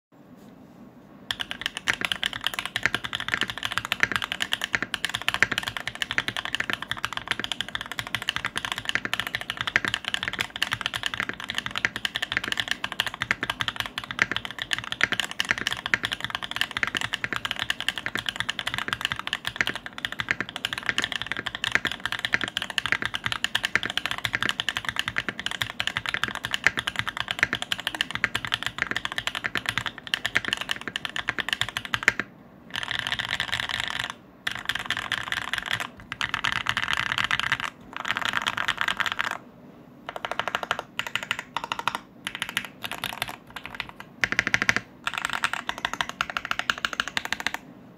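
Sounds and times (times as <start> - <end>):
fast mechanical keyboard typing: 1.3 - 39.4, 40.1 - 47.6.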